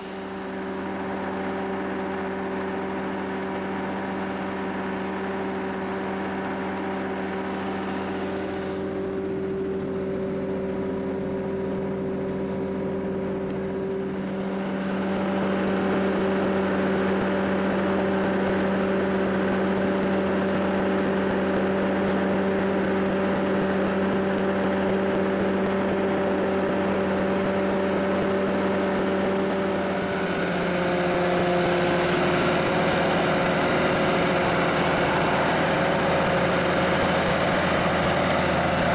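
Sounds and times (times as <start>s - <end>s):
engine humming steadily: 0.0s - 38.9s.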